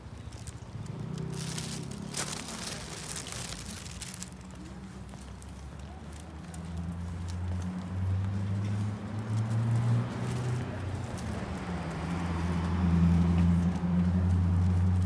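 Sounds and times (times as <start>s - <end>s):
road noise: 0.0s - 15.0s
vehicle engine humming low: 0.0s - 15.0s.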